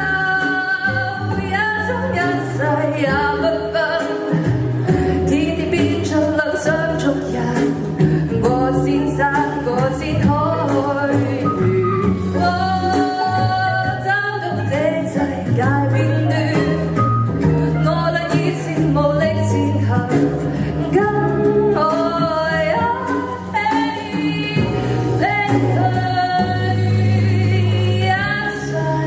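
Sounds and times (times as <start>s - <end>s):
backing music: 0.0s - 29.0s.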